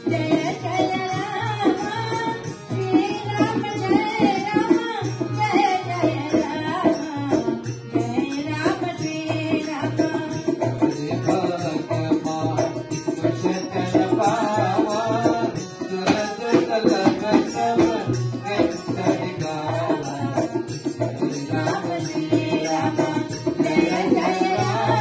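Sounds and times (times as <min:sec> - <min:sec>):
devotional music: 0:00.0 - 0:25.0
hand drum beat: 0:00.0 - 0:25.0.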